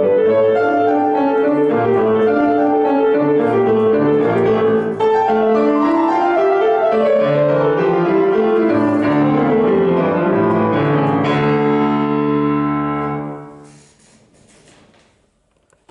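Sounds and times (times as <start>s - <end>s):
grand piano playing: 0.0s - 13.6s.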